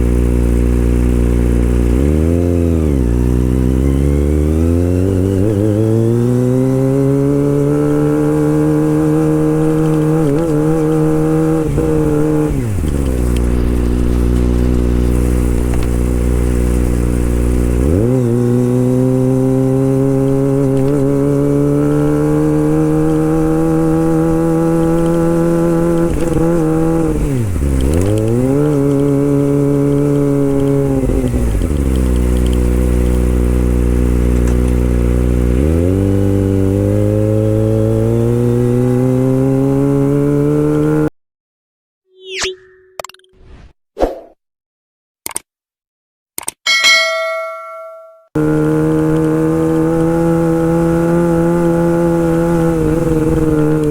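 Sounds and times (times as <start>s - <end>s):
motorcycle engine revving: 0.0s - 41.1s, 48.4s - 53.9s.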